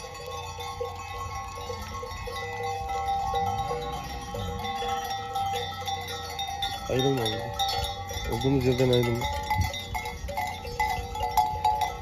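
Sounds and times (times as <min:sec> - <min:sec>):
sheep bells clanking: 0:00.0 - 0:12.0.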